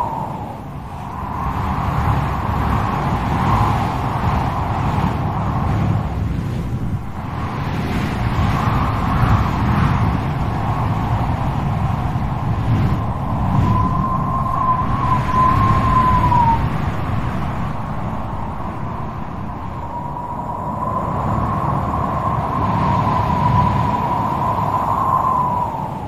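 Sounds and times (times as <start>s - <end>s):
strong wind howling: 0.0s - 26.0s.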